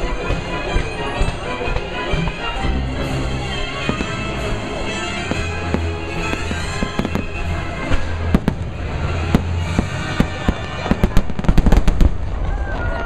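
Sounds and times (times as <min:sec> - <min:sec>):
music playing: 0:00.0 - 0:12.3
fireworks bangs: 0:00.1 - 0:13.0.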